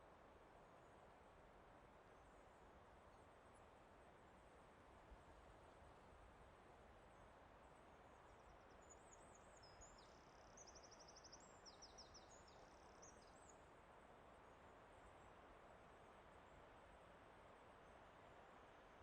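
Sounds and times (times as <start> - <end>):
soft rush of wind or water: 0.0 - 19.0.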